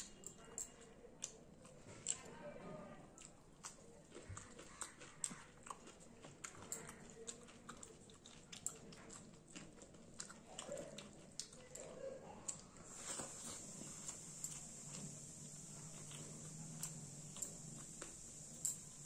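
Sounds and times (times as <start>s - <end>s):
person chewing and lip smacking: 0.0s - 2.3s, 3.2s - 19.0s.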